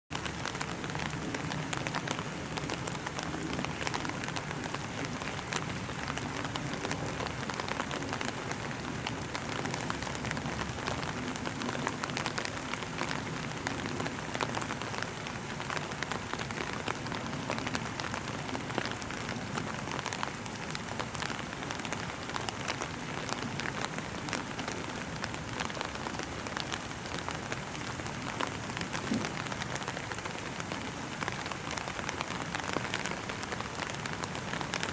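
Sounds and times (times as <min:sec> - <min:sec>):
rain pattering: 0:00.1 - 0:34.9.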